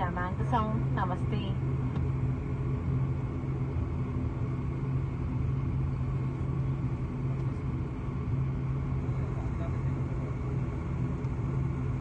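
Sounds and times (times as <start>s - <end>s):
airliner engine noise: 0.0s - 12.0s.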